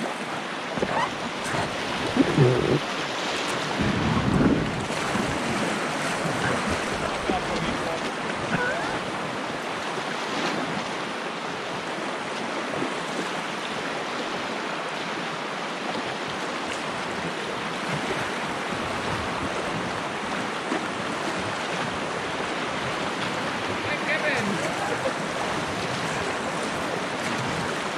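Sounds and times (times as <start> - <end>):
rapids rushing water: 0.0 - 27.9.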